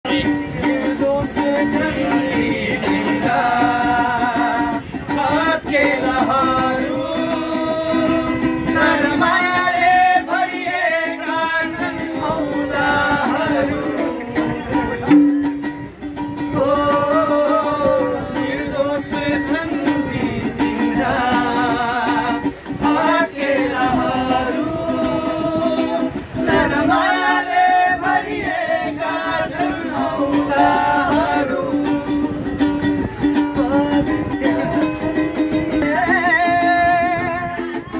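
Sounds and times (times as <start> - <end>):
man singing: 0.0 - 15.2, 16.5 - 32.5, 33.5 - 37.9.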